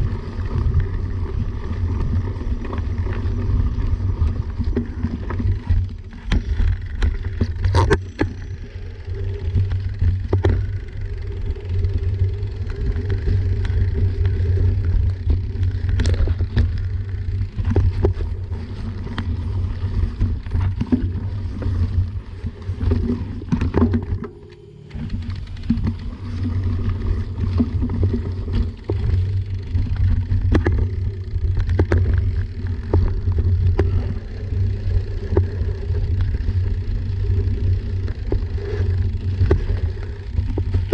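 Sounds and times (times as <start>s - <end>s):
bike tyres rumbling on dirt trail: 0.0s - 40.9s.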